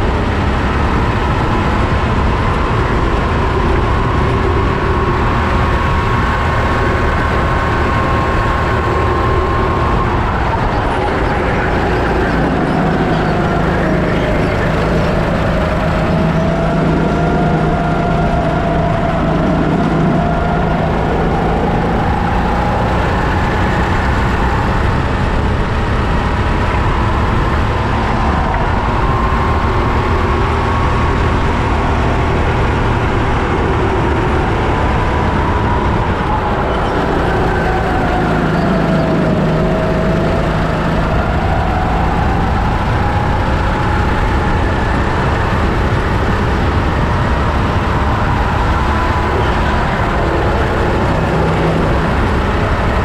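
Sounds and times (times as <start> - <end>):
kart engine at speed: 0.0 - 53.0
road and wind noise: 0.0 - 53.0.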